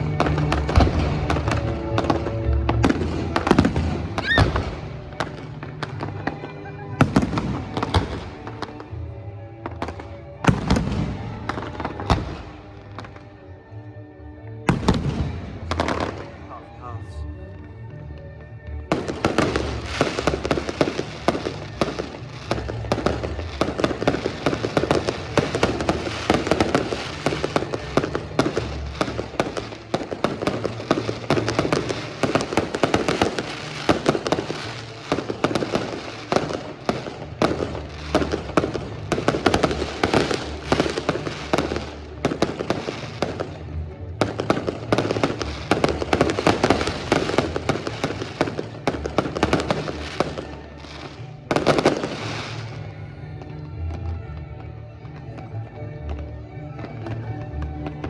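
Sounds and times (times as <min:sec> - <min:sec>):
fireworks bangs and crackles: 0:00.0 - 0:13.8, 0:14.6 - 0:58.0.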